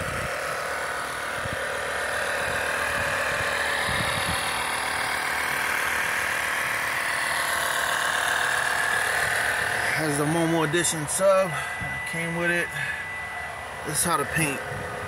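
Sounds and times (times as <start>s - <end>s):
machine running: 0.0s - 15.0s.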